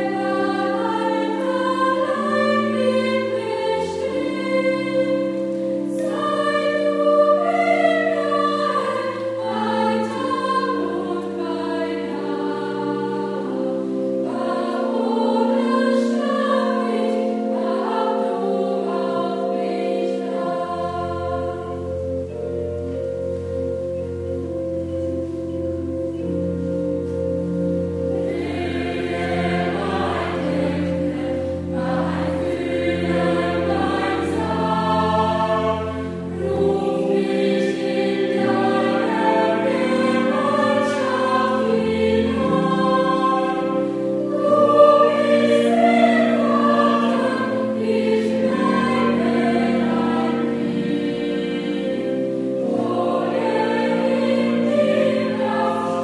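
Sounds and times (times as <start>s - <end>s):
choir singing: 0.0s - 56.0s
held accompaniment notes: 0.0s - 56.0s.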